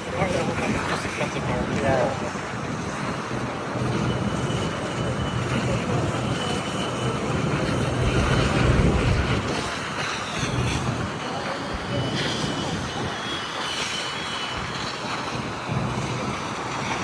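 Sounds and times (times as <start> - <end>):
vehicle engines rumbling: 0.0 - 17.0.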